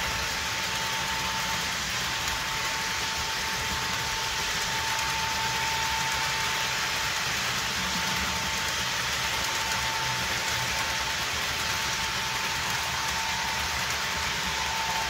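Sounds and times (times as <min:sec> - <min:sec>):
model train wheels hissing on rail: 0:00.0 - 0:15.0
steady high whine: 0:00.0 - 0:15.0.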